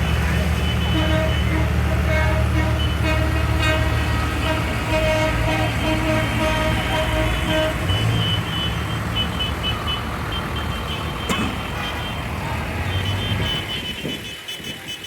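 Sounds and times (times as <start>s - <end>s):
tractor engines rumbling: 0.0s - 15.0s.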